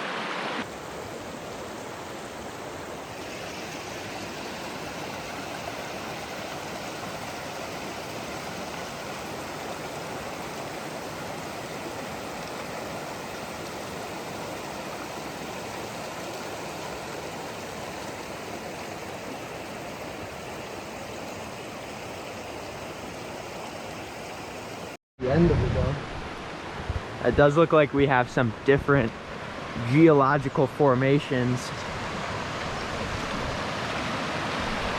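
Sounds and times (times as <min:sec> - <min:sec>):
creek rushing: 0:00.0 - 0:34.9.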